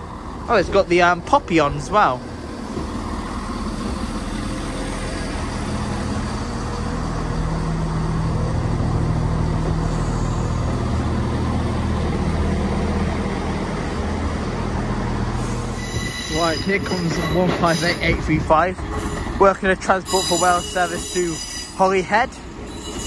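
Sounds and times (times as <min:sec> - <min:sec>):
train diesel engines idling: 0:00.0 - 0:23.0.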